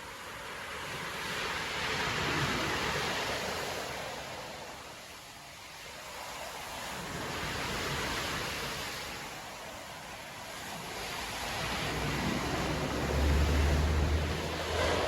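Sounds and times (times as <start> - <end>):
surf breaking on a beach: 0.0 - 15.0.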